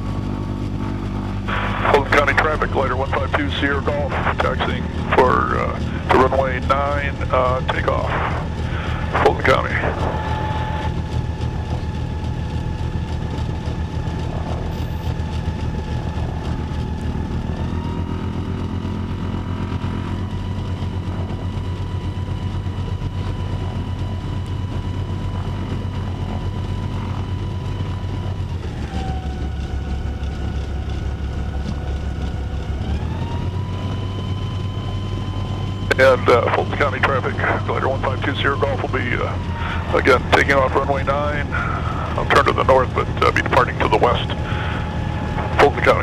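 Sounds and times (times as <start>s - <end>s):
piston engine and propeller rumble: 0.0s - 46.0s.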